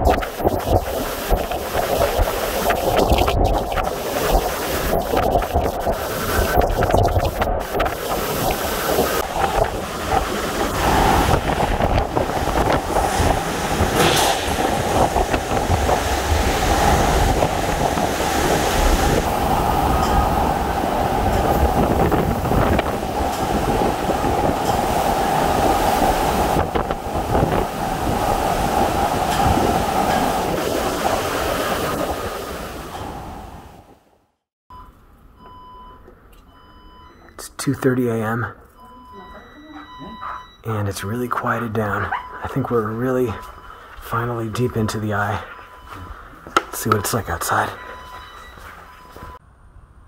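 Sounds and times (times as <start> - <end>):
hurricane winds howling: 0.0 - 34.2, 38.4 - 50.0.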